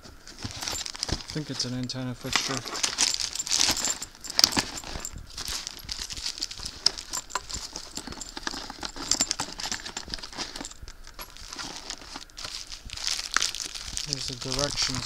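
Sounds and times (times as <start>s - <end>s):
plastic packaging crinkling: 0.3s - 15.0s.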